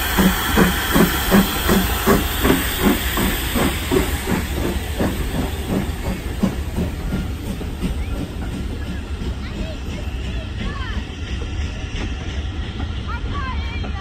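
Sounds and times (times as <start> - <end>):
steady hiss of steam: 0.0 - 13.4
steam locomotive exhaust chuffs: 0.0 - 14.0.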